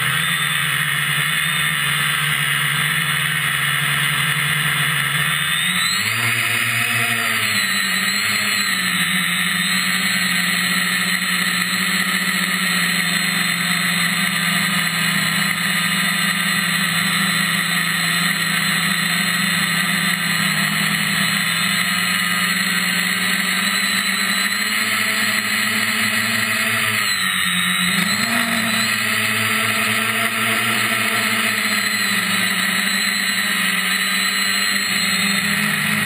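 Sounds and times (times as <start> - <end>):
drone propellers whining: 0.0 - 36.0.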